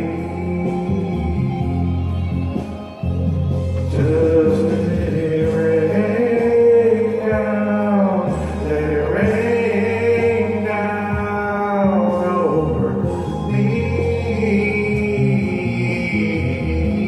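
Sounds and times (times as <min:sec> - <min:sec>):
man singing wordless notes: 0:00.0 - 0:17.0
musical backing: 0:00.0 - 0:17.0.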